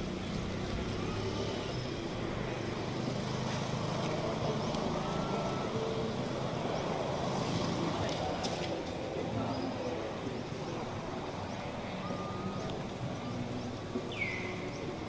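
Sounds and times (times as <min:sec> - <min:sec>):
traffic noise: 0:00.0 - 0:15.0
vehicle engine hum: 0:00.0 - 0:15.0.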